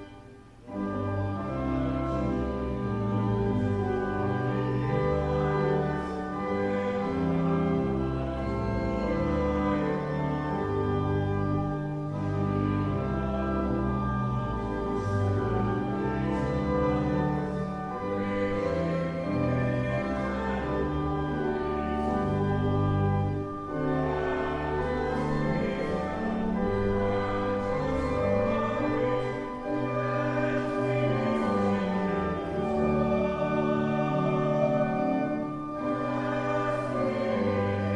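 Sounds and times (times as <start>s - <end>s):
hymn singing: 0.0s - 37.9s
organ chords: 0.0s - 37.9s.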